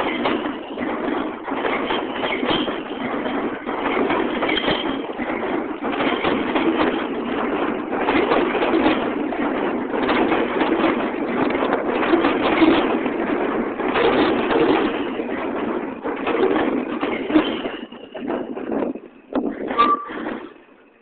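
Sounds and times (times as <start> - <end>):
subway train rumble: 0.0 - 21.0
wheel clacks over rail joints: 0.0 - 21.0.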